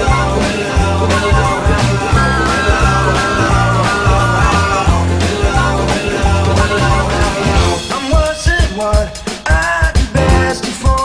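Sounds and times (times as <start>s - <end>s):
rock song with guitar and bass: 0.0s - 11.0s.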